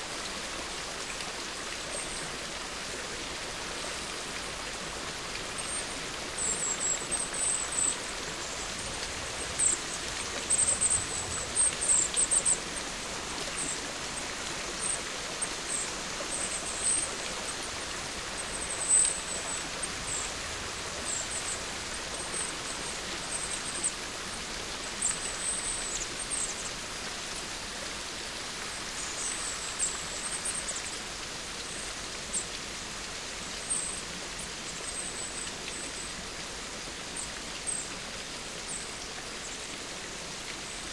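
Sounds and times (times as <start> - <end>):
rain-like hiss: 0.0 - 40.9.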